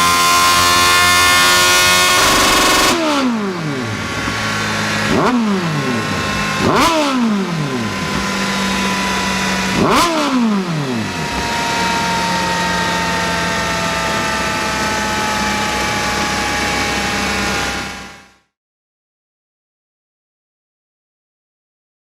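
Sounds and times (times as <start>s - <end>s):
motorcycle engine revving and idling: 0.0s - 18.5s.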